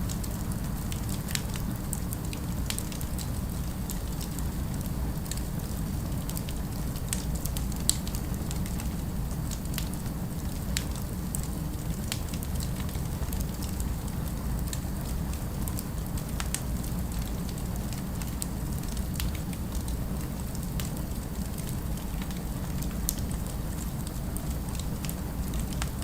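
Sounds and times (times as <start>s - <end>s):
fireplace crackling and popping: 0.0s - 26.0s.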